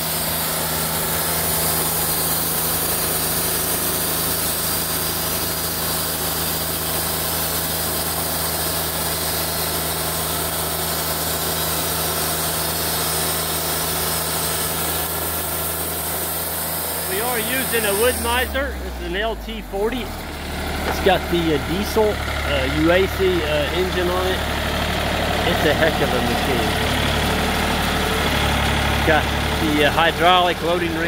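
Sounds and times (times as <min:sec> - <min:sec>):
band sawmill cutting log: 0:00.0 - 0:31.0
diesel engine running: 0:00.0 - 0:31.0.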